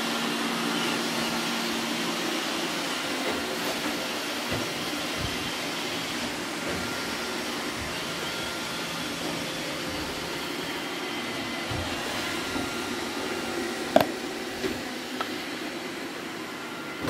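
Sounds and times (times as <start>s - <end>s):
robot vacuum whirring: 0.4s - 17.0s.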